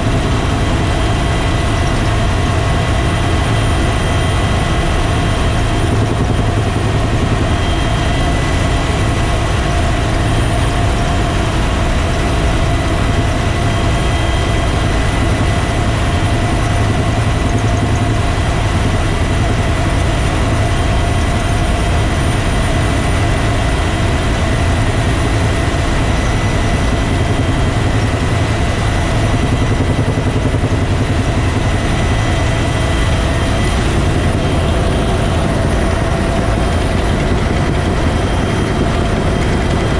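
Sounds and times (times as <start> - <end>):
helicopter rotor noise: 0.0 - 39.9
turbine whine: 0.0 - 39.9.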